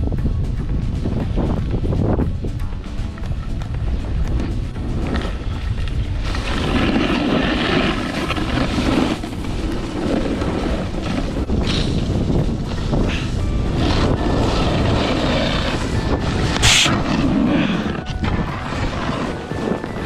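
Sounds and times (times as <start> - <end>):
wind buffeting microphone: 0.0 - 20.0
snowboard sliding over snow: 3.3 - 20.0.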